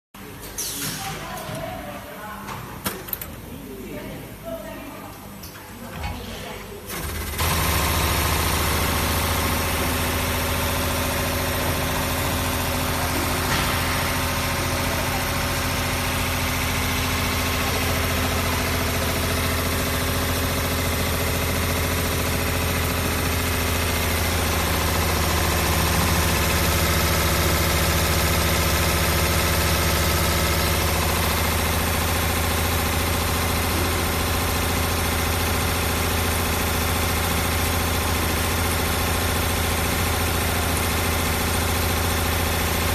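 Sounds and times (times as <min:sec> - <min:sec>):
winding machine humming: 0:06.9 - 0:42.9.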